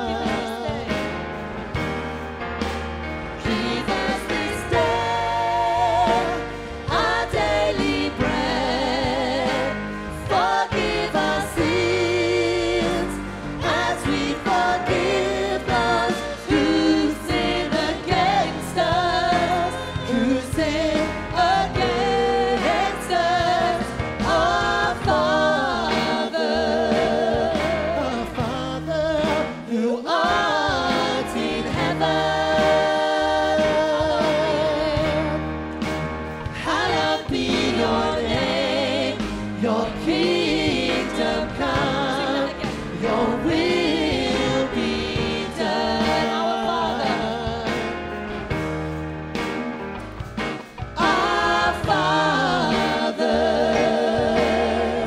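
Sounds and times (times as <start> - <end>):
drums: 0.0 - 55.0
keyboard: 0.0 - 55.0.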